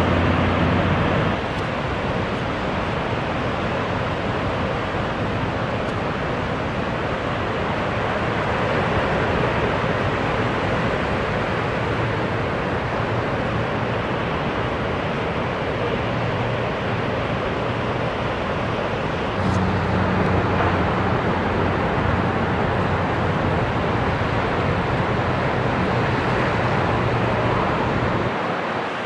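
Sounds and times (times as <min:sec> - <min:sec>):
ocean waves breaking: 0:00.0 - 0:29.0.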